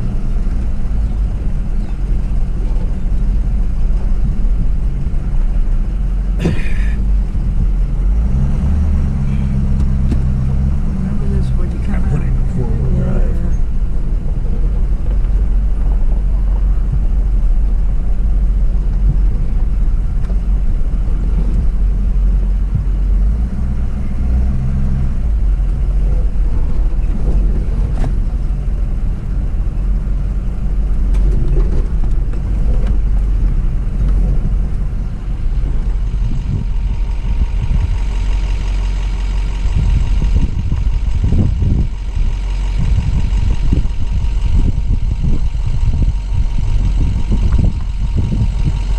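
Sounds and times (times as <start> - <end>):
truck engine rumbling: 0.0 - 48.9.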